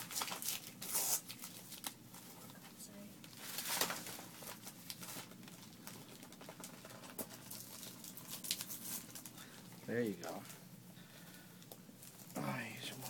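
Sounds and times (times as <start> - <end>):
packaging rustling and crinkling: 0.0 - 10.6, 11.2 - 13.0.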